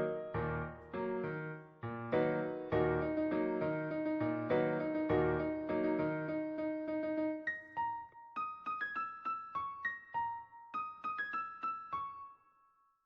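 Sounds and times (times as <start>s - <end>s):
piano music: 0.0s - 12.5s.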